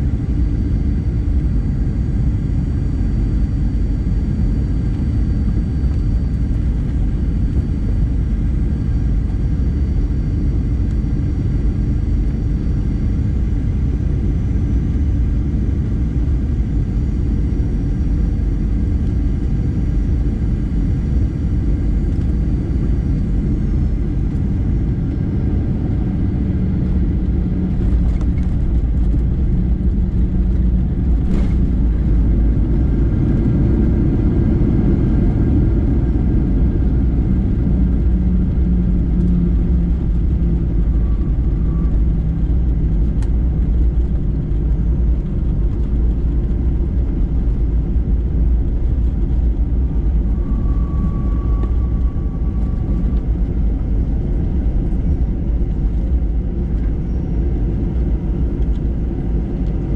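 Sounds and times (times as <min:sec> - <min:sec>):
faint high whine: 0:00.0 - 0:59.8
jet engine and airflow rumble: 0:00.0 - 0:59.9.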